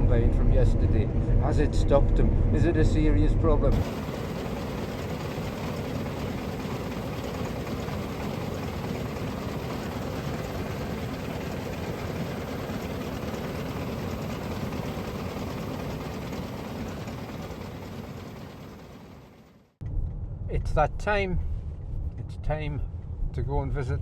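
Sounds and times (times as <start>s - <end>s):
vehicle engine running: 0.0s - 23.7s.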